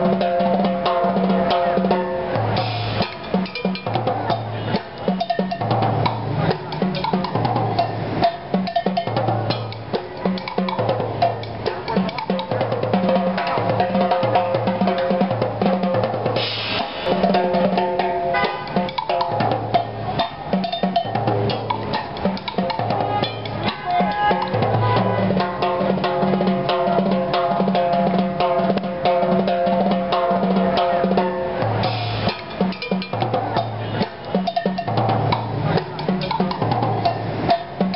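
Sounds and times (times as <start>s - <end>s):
timbales drumming rapid rhythms: 0.0s - 37.9s.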